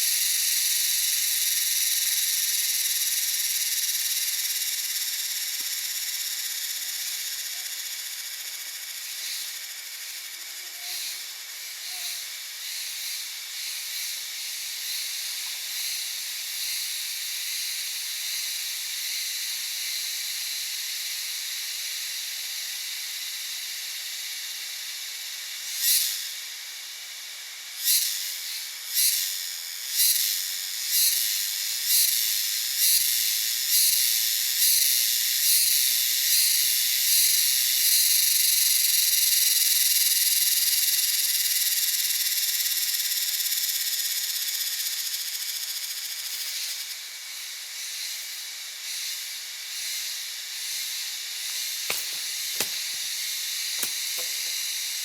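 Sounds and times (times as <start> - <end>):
cicada pulsed buzzing call: 0.0 - 55.0
insect chorus hissing: 0.0 - 55.0.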